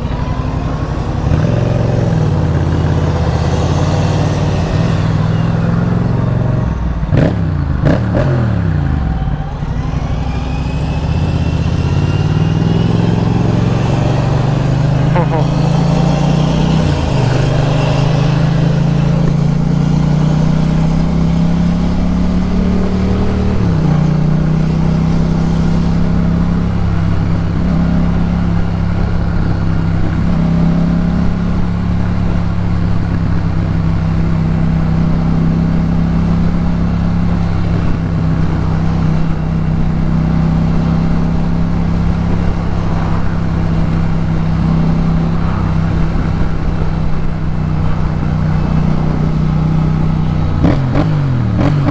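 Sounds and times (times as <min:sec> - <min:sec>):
motorcycle engine cruising: 0:00.0 - 0:51.9.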